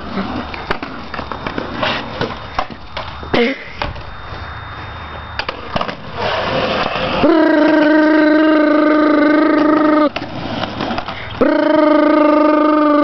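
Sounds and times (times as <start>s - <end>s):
skateboard wheels rumbling on concrete: 0.0s - 13.0s.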